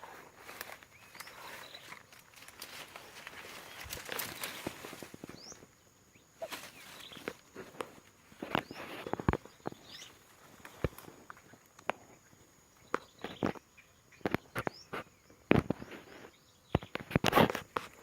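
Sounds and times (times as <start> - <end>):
rustling and dry crackling: 0.0 - 13.6, 14.2 - 18.0.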